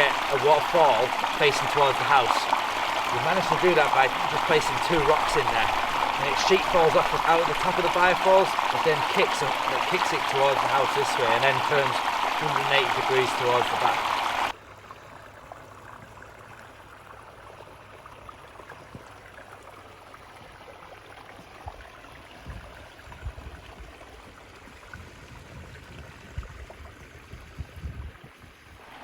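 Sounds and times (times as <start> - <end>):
waterfall splashing into pond: 0.0 - 29.0.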